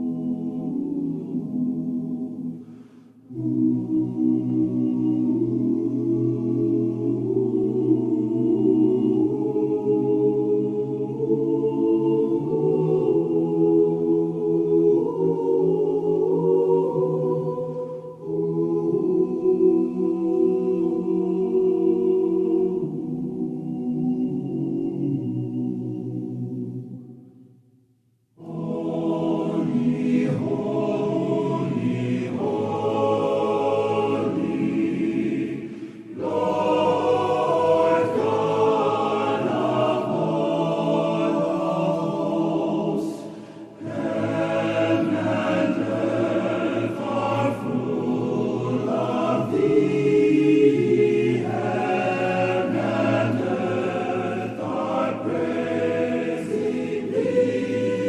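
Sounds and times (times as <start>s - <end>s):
choir singing: 0.0s - 27.6s, 28.4s - 58.0s.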